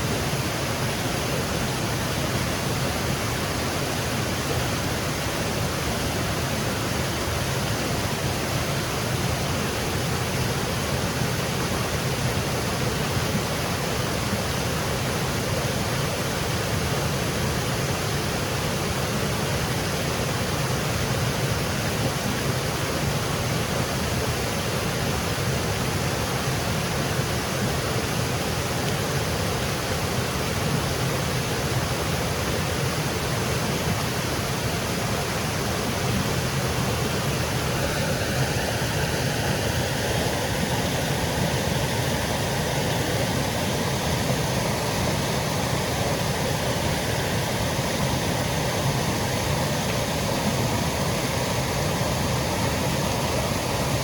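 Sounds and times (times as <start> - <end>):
waterfall cascading over rocks: 0.0 - 54.0.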